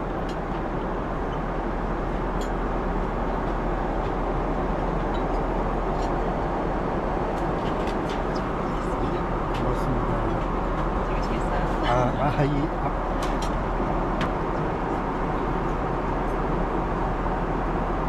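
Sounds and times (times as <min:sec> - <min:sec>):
airliner cabin engine roar: 0:00.0 - 0:18.0.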